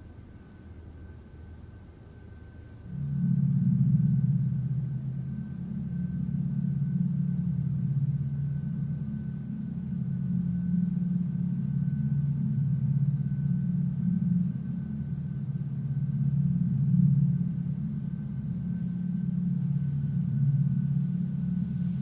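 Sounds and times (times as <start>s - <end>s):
low rumbling drone: 0.0s - 22.0s.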